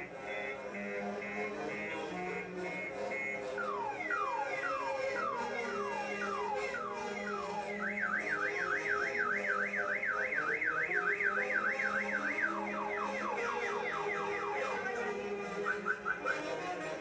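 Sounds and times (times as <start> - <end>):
car alarm siren: 0.0 - 17.0.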